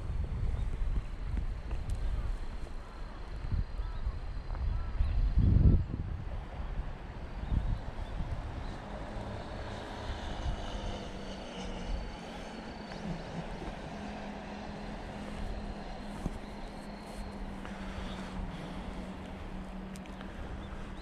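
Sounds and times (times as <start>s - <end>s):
continuous rushing noise: 0.0s - 21.0s
distant engine drone: 0.0s - 21.0s.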